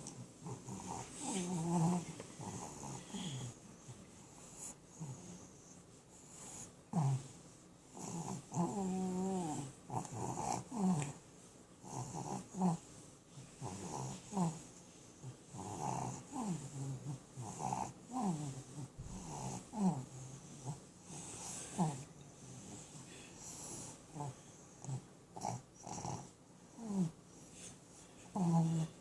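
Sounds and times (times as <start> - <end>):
dog snoring: 0.4 - 7.3, 7.9 - 11.2, 11.8 - 12.8, 13.6 - 27.7, 28.3 - 29.0.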